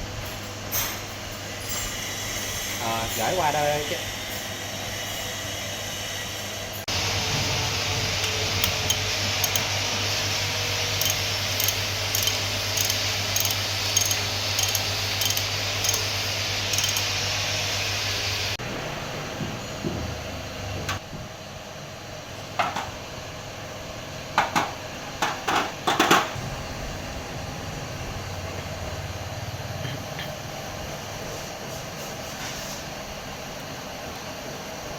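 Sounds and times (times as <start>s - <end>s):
workshop machine hissing and humming: 0.0s - 34.9s.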